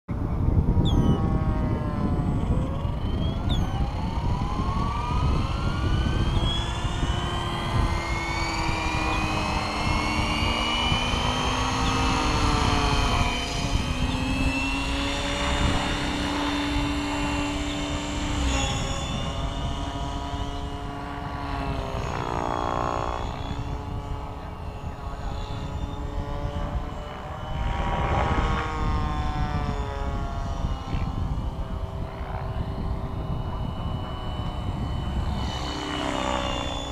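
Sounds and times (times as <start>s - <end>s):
rc helicopter motor whine: 0.1s - 36.9s
wind rumble on microphone: 0.1s - 36.9s.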